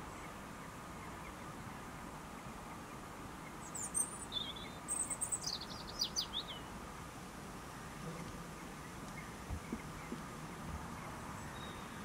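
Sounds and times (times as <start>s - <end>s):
outdoor background hiss: 0.0s - 12.0s
songbird chirping: 0.0s - 12.0s.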